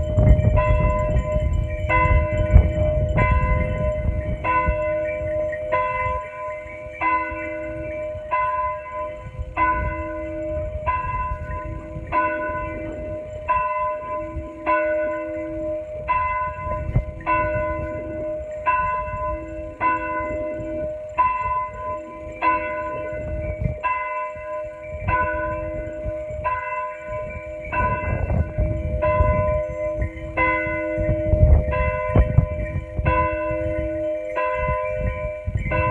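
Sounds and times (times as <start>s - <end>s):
church bell tolling: 0.0s - 35.9s.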